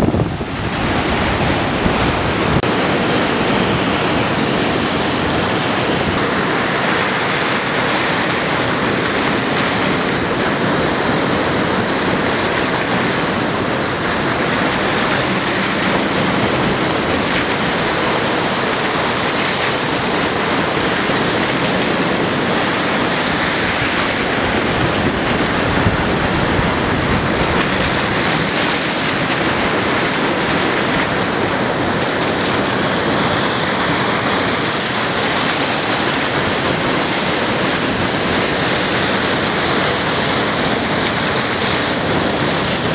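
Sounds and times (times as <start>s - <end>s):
surf breaking and foaming: 0.0s - 42.9s.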